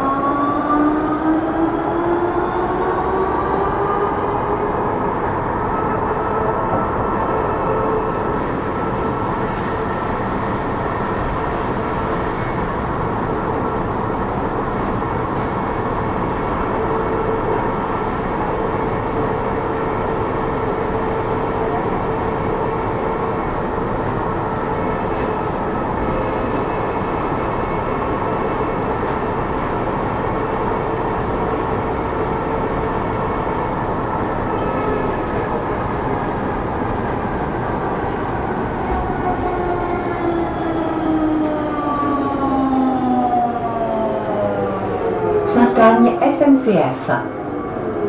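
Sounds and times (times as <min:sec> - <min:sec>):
train running rumble: 0:00.0 - 0:48.0
train whine: 0:00.0 - 0:48.0.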